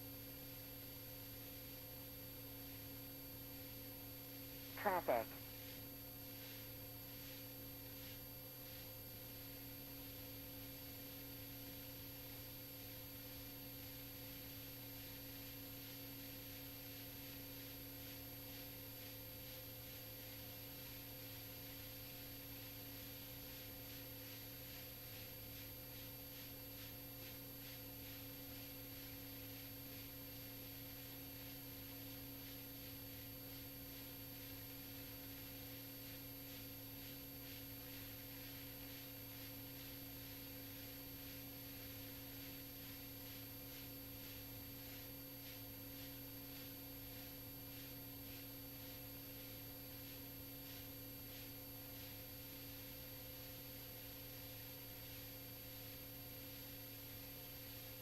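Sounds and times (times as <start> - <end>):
faint electrical hum and hiss: 0.0 - 58.0.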